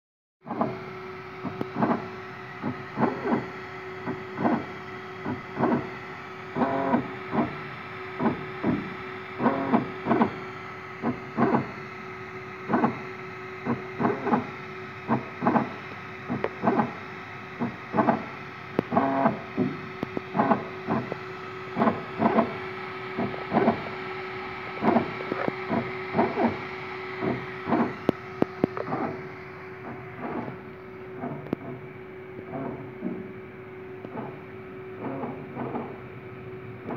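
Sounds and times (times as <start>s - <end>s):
steady hum: 0.4s - 36.9s
stepper motors whirring: 0.5s - 11.9s, 12.6s - 31.8s.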